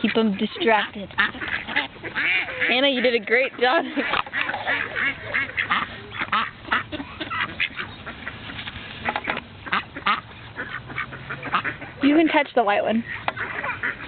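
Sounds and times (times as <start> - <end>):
ducks quacking: 0.0 - 14.0.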